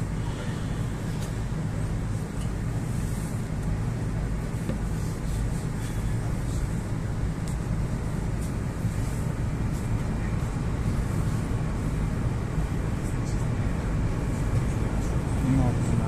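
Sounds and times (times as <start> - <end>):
metro train rumble: 0.0 - 16.0.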